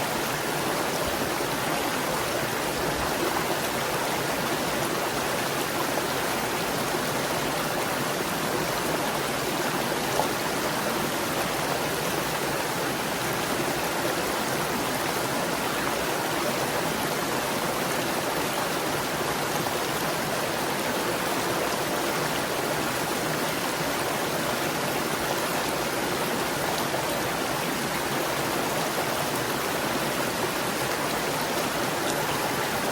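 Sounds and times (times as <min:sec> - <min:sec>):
stream water rushing over rocks: 0:00.0 - 0:32.9.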